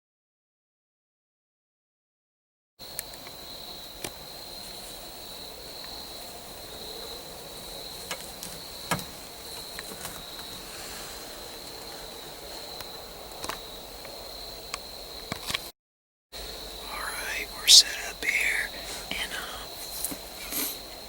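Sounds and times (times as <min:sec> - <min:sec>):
crickets chirping: 0:02.8 - 0:15.7, 0:16.4 - 0:21.0.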